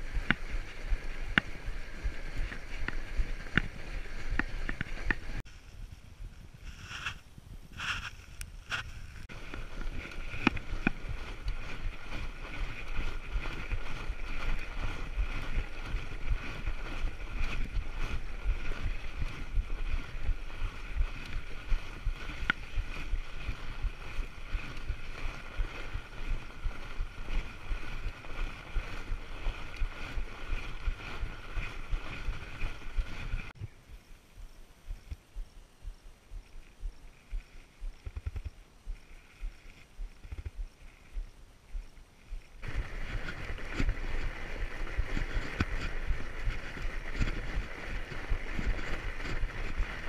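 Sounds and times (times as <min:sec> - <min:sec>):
bike clicks: 0:00.0 - 0:05.4, 0:07.8 - 0:33.5, 0:37.3 - 0:41.3, 0:42.4 - 0:50.0
bike tyres rolling on snow: 0:00.0 - 0:50.0.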